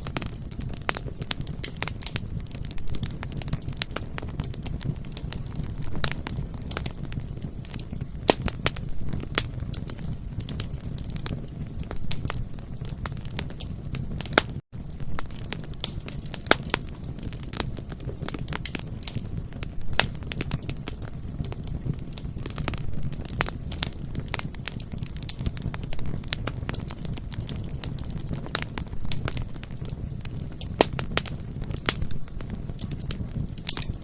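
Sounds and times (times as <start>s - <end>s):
bonfire crackling: 0.0s - 34.0s
burning wood popping: 0.0s - 34.0s.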